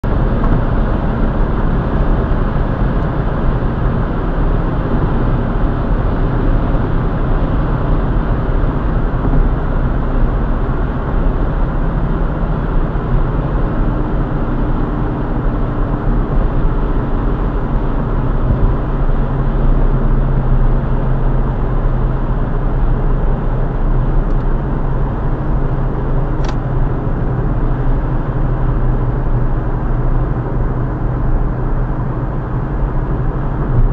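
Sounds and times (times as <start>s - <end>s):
car engine drone: 0.0s - 33.9s.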